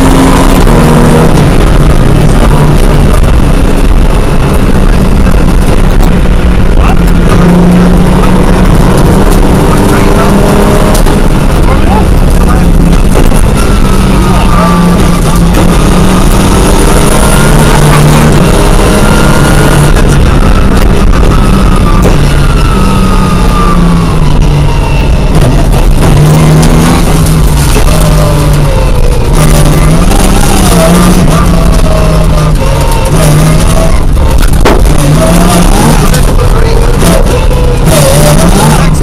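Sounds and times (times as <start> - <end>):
rally car engine accelerating: 0.0 - 39.0.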